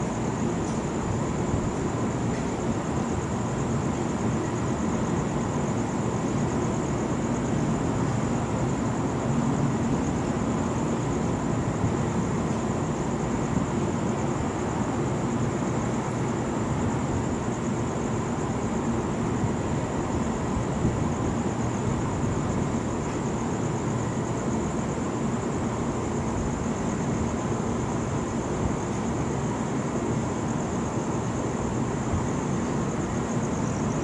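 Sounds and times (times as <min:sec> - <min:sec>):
machinery hum: 0:00.0 - 0:34.0.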